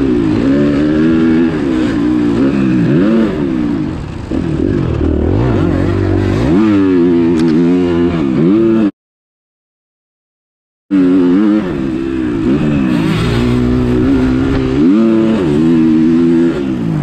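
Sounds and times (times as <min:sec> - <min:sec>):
dirt bike engine revving: 0:00.0 - 0:08.9, 0:10.9 - 0:17.0.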